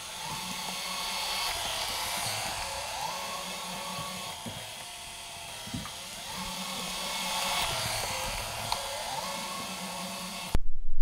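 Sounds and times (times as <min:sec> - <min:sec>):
robot vacuum motor whirring: 0:00.0 - 0:10.6.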